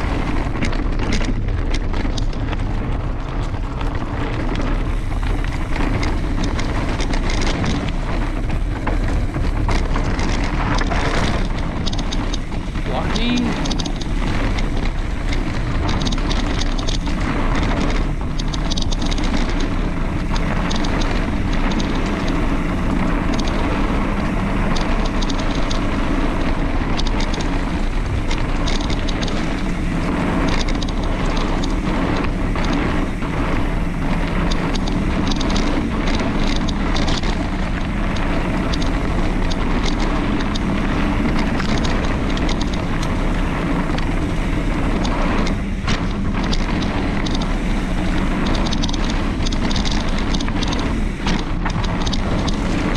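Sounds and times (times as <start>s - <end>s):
bike rattling over bumps: 0.0s - 52.9s
tyres rumbling on dirt: 0.0s - 52.9s
wind buffeting microphone: 0.0s - 52.9s.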